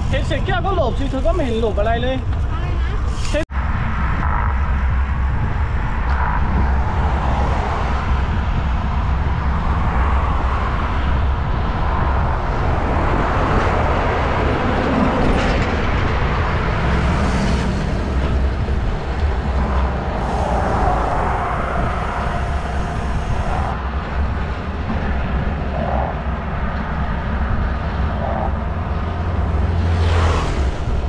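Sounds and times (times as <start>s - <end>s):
road noise: 0.0s - 31.0s
wind rush on microphone: 0.0s - 31.0s.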